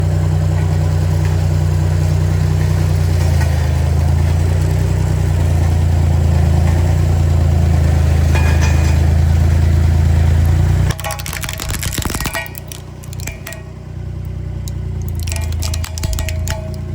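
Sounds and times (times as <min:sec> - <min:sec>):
road roller engine droning: 0:00.0 - 0:16.9.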